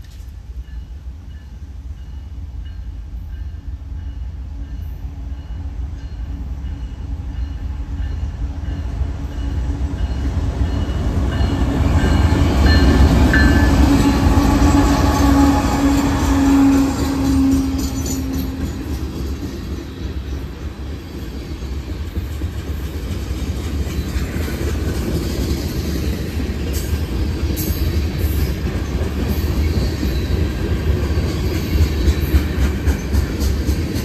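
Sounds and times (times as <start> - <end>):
diesel locomotive engine rumble: 0.0 - 34.0.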